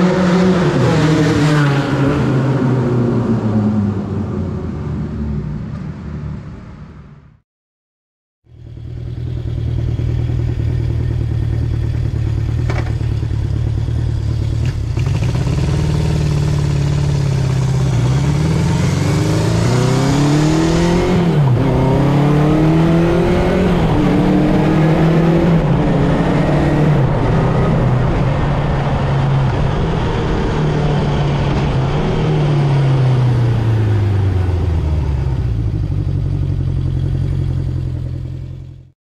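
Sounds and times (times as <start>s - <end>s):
motorcycle engine idling and revving: 0.0s - 7.4s, 8.4s - 39.0s.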